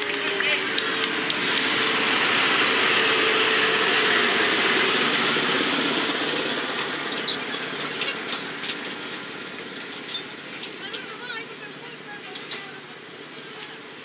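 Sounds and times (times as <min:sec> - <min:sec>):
diesel locomotive engine: 0:00.0 - 0:14.0
train wheels rumbling on rail: 0:00.0 - 0:14.0.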